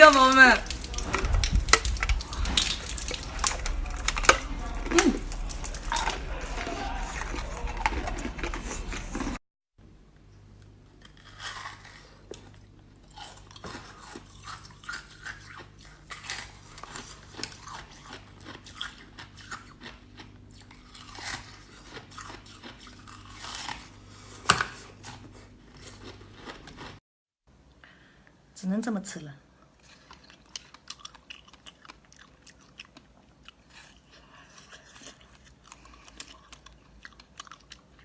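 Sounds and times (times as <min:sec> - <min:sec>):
ice being chewed: 0:00.0 - 0:09.4, 0:10.6 - 0:27.0, 0:29.6 - 0:38.0.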